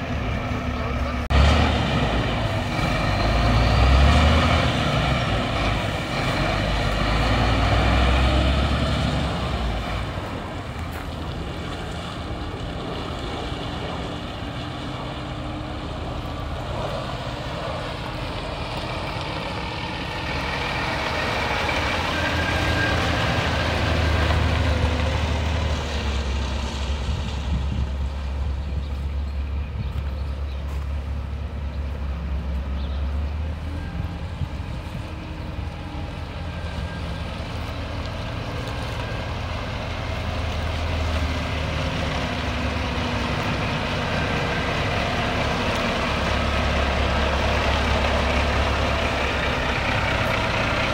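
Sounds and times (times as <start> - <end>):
truck diesel engine driving: 0.0 - 50.9.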